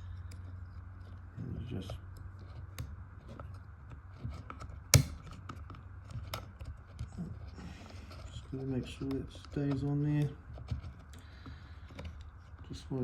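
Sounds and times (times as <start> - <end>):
plastic and metal parts clicking: 1.8 - 12.9.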